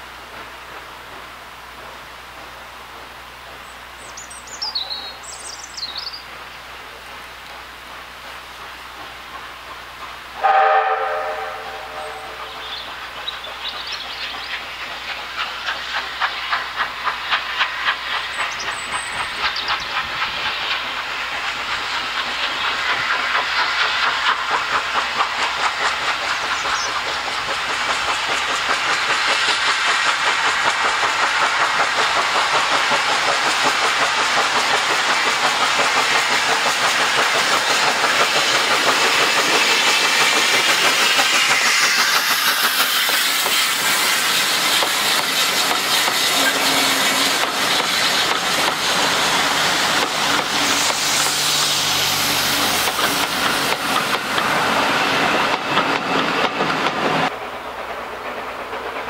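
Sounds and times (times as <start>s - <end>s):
hissing steam: 0.0s - 59.0s
steam locomotive exhaust beats: 0.0s - 59.0s
train wheels clattering on rails: 0.0s - 59.0s.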